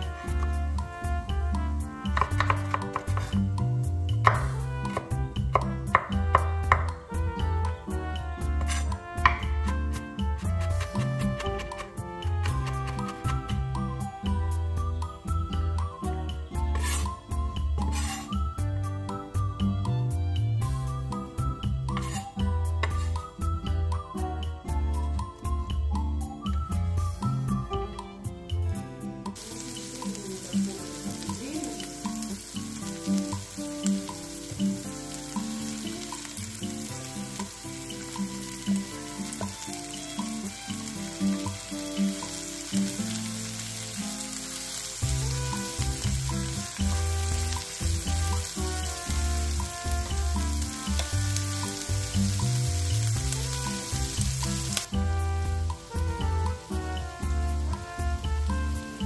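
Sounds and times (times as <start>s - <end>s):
vegetables sizzling in a skillet: 0.0s - 7.2s, 7.8s - 23.6s, 29.3s - 59.0s
background music with bass: 0.0s - 43.9s, 44.9s - 59.0s.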